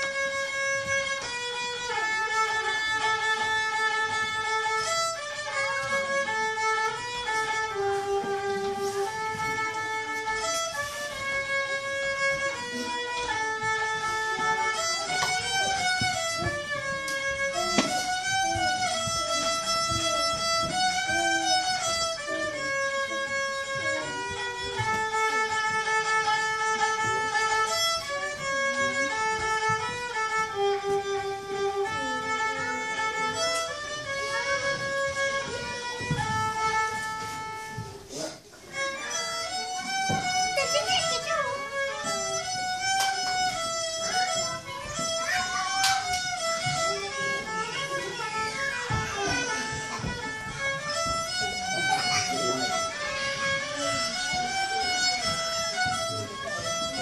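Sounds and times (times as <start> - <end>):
fiddle solo melody: 0.0 - 57.0.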